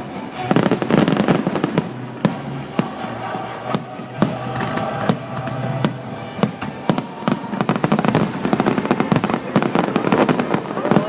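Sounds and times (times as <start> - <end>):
rapid crackling of fireworks: 0.0 - 11.0.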